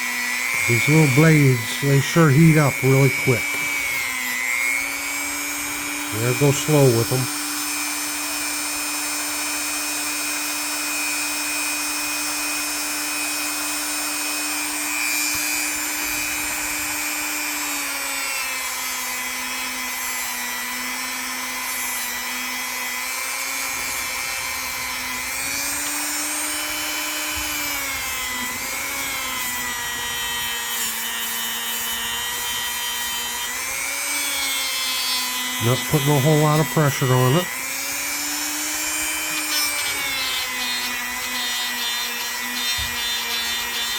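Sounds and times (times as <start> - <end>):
power tool motor running: 0.0 - 43.9.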